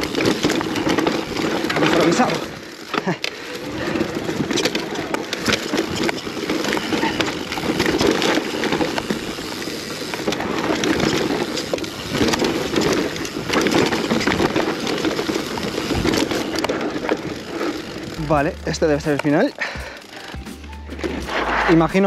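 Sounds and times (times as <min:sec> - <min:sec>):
bike rattling: 0:00.0 - 0:22.0
bike tyres over dirt and rocks: 0:00.0 - 0:22.0.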